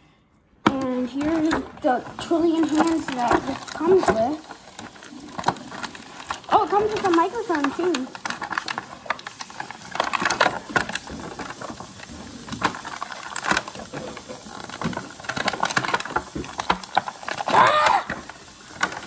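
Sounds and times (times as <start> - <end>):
plastic packaging crinkling: 0.6 - 19.0.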